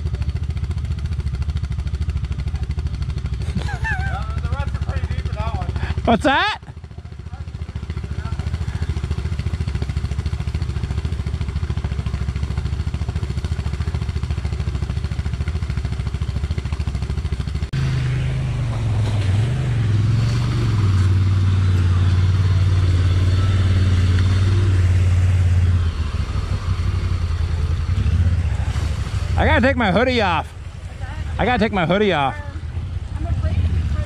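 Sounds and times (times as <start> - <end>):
atv engine: 0.0 - 34.0.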